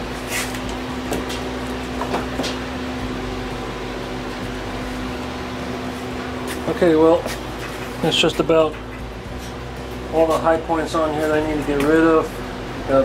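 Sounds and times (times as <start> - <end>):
shop equipment humming: 0.0 - 13.0.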